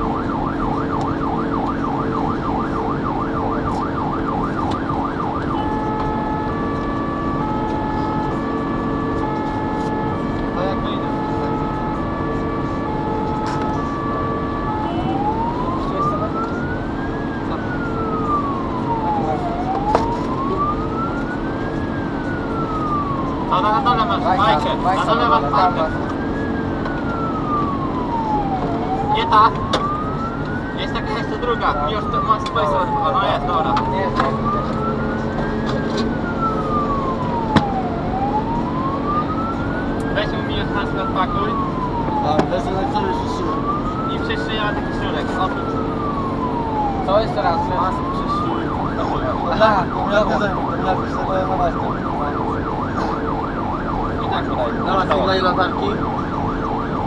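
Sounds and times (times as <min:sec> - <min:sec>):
fire engine siren: 0:00.0 - 0:57.0
truck engine drone: 0:00.0 - 0:57.0.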